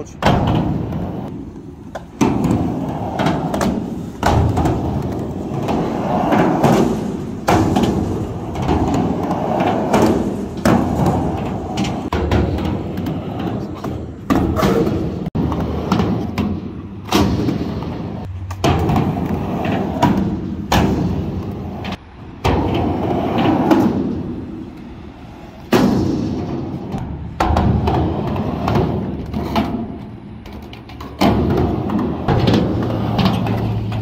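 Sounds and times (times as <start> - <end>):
skateboard clacks and thuds: 0.0 - 34.0
skateboard wheels rolling on concrete: 0.0 - 34.0.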